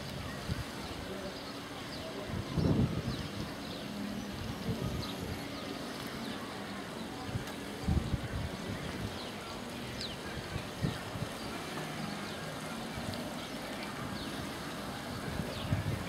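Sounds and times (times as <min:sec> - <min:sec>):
wind buffeting microphone: 0:00.0 - 0:01.3, 0:01.9 - 0:16.0
steady outdoor hiss: 0:00.0 - 0:16.0.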